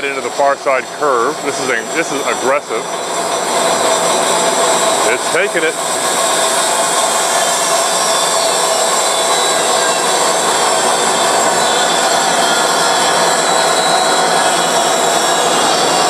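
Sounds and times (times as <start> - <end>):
bandsaw cutting metal: 0.0 - 16.0.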